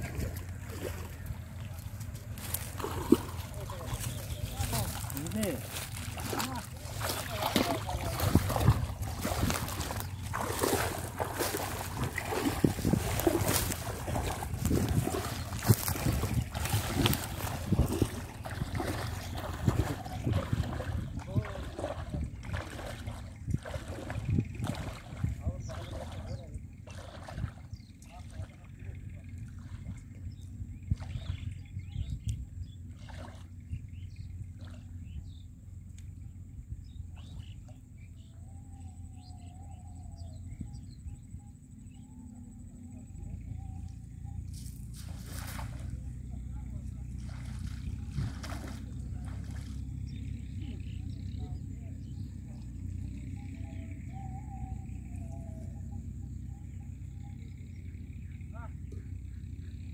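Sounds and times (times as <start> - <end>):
feet wading through shallow water: 0.0 - 39.8, 42.5 - 58.3
low outdoor rumble: 0.0 - 59.9.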